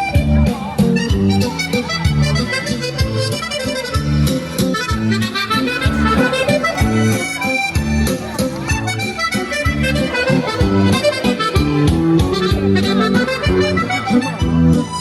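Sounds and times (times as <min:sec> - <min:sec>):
reedy melody over bass line: 0:02.1 - 0:15.0.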